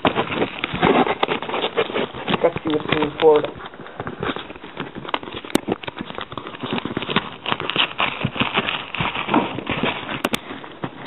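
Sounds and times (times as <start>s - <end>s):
paper and cardboard crinkling: 0.0s - 11.0s.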